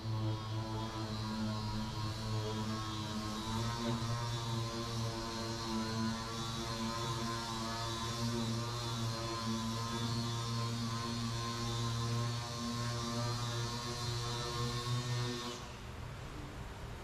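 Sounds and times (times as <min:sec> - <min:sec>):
orbital sander humming: 0:00.0 - 0:15.7.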